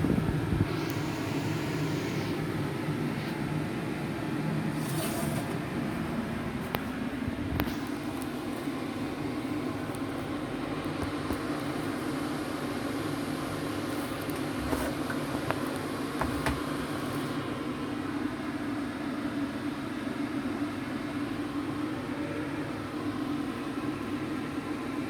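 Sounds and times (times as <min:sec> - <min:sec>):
machine hum with hiss: 0:00.0 - 0:25.0.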